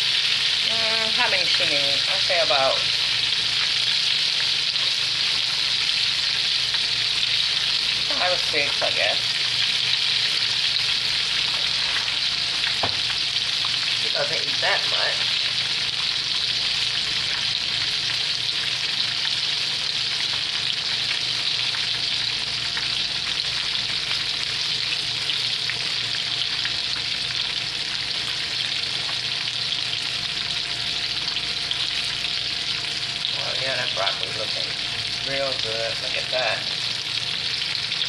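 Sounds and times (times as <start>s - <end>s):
chicken frying in hot oil: 0.0s - 38.0s.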